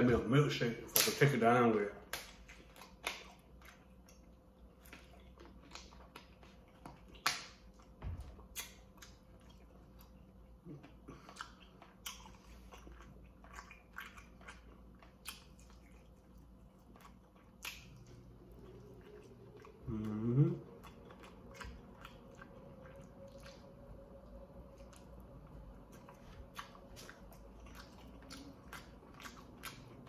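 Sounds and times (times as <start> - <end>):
person chewing: 2.0 - 30.0.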